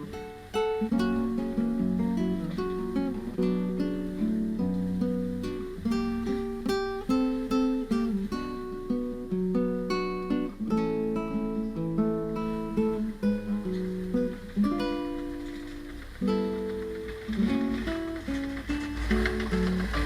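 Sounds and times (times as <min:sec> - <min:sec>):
plucked acoustic guitar: 0:00.0 - 0:20.0.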